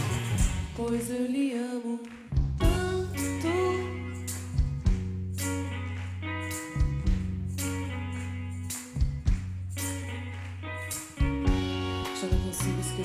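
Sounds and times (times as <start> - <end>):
held bass notes: 0.0 - 1.1, 2.3 - 13.0
band playing slow pop ballad: 0.0 - 1.3, 2.4 - 13.0
guitar lines: 0.0 - 1.4, 2.6 - 13.0.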